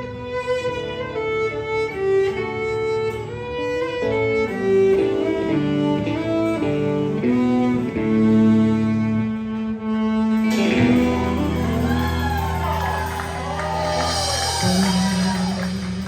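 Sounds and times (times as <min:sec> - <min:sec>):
fiddle melody: 0:00.0 - 0:16.0
guitar accompaniment: 0:00.0 - 0:16.0.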